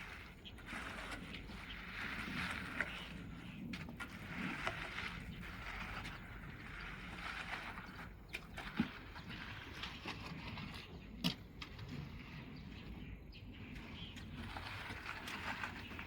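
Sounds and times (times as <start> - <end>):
concrete pump rushing noise: 0.0 - 16.0.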